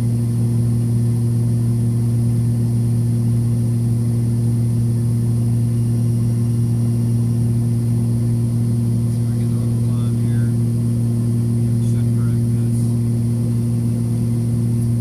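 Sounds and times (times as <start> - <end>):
aircraft engines droning: 0.2 - 15.0.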